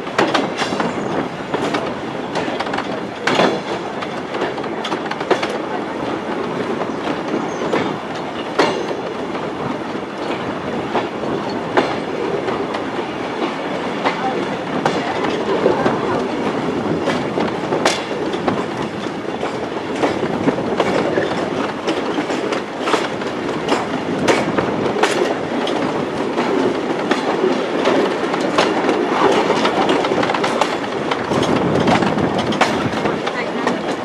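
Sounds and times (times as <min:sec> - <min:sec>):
train rumbling and rattling: 0:00.0 - 0:34.0
wheels clicking over rail joints: 0:00.0 - 0:34.0.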